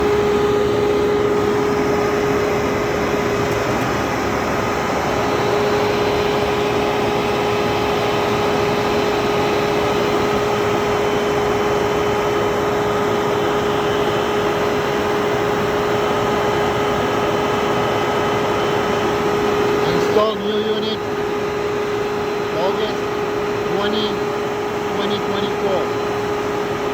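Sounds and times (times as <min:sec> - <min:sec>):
air conditioner running: 0:00.0 - 0:26.9.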